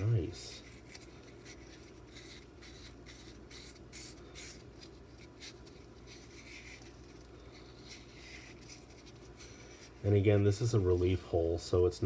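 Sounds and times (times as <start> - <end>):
sandpaper scratching metal: 0.0 - 11.0.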